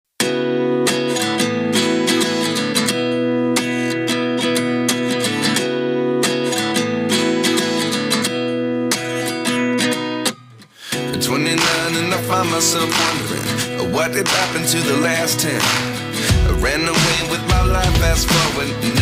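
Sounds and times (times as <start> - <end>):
acoustic guitar strumming chords: 0.2 - 19.0.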